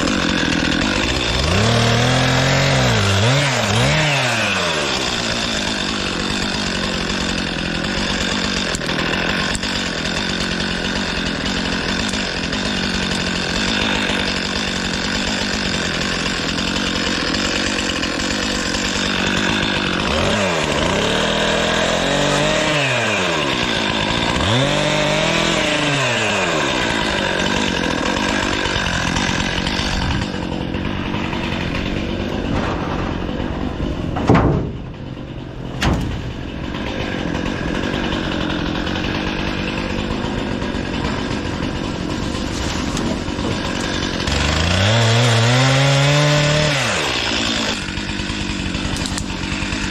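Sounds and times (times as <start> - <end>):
chainsaw running: 0.0 - 49.9.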